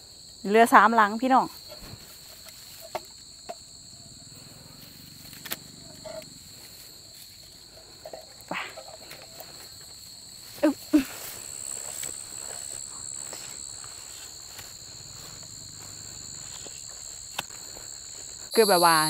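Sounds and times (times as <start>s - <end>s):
crickets shrilling: 0.0s - 19.0s.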